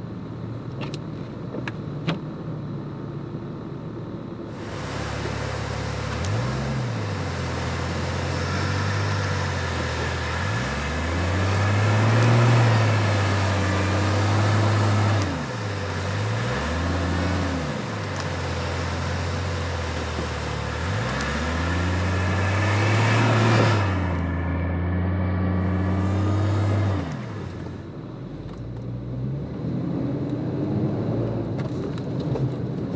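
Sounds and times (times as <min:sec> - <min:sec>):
vehicle engine revving: 0:04.5 - 0:31.8.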